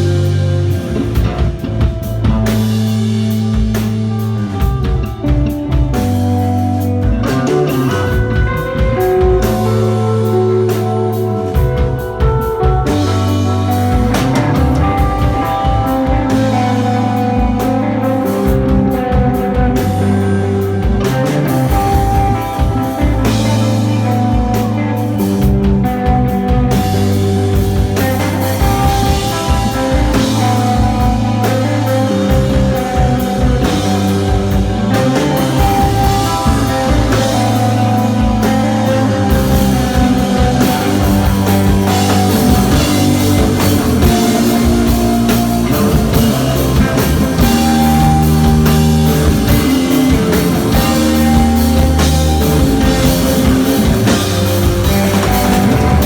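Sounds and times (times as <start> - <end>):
droning electric guitar: 0.0 - 56.0
drum kit keeping time: 0.0 - 56.0
held bass notes: 0.0 - 56.0.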